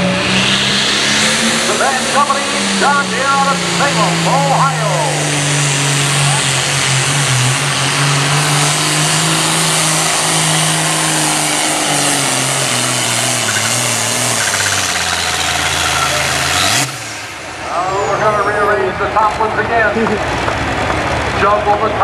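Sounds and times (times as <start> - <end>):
tractor diesel engine running hard: 0.0 - 22.0.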